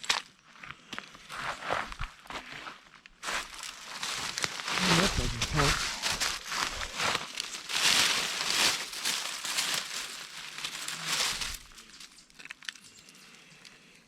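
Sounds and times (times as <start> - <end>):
rustling crackling noise: 1.4 - 13.8.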